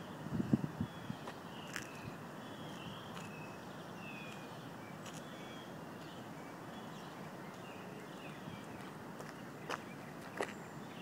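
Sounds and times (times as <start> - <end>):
birds chirping: 0.0 - 11.0
steady outdoor hiss: 0.0 - 11.0.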